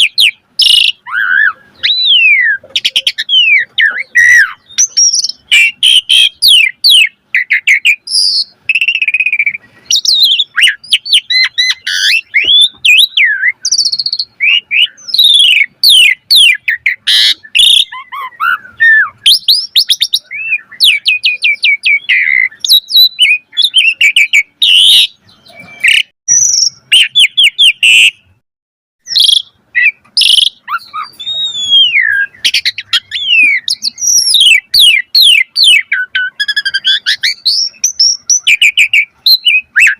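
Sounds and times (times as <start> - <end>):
starling singing: 0.0 - 28.4, 29.1 - 39.9.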